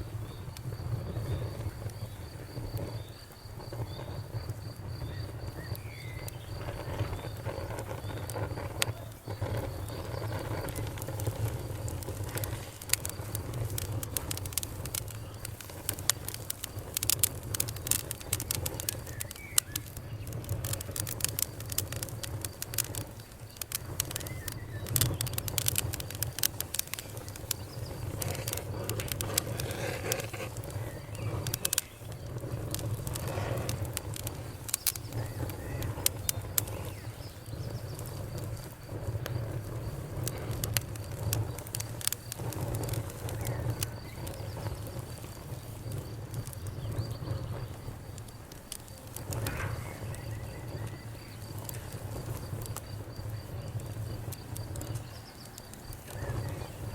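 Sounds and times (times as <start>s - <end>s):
fire crackling and popping: 0.0s - 56.9s
low fire rumble: 0.0s - 56.9s.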